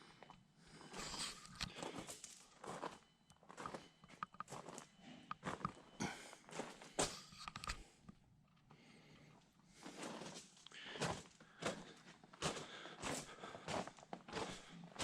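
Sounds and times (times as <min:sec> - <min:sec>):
footsteps of person walking: 0:00.2 - 0:07.9, 0:09.7 - 0:15.0.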